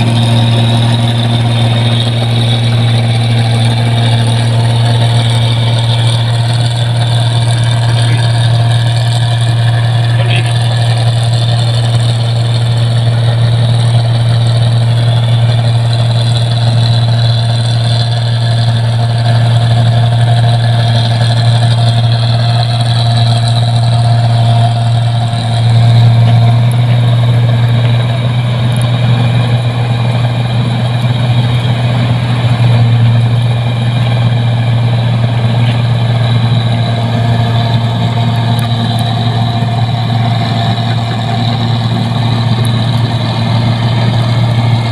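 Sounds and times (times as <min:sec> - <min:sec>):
combine harvester engine humming: 0:00.0 - 0:44.9.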